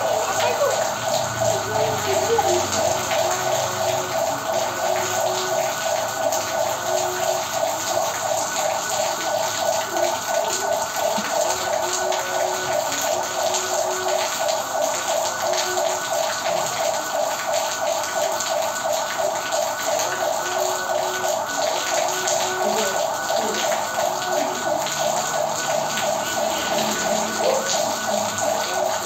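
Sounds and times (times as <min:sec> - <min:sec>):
heavy rain splashing on pavement: 0:00.0 - 0:29.0.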